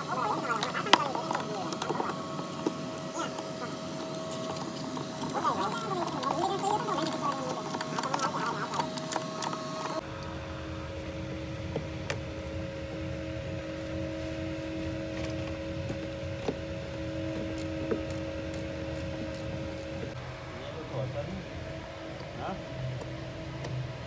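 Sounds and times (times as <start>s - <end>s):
mechanical hum: 0.0s - 24.0s.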